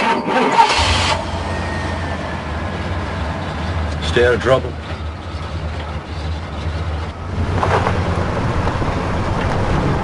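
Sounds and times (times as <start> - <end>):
road noise: 0.0 - 10.0
vehicle engine rumble: 0.6 - 10.0.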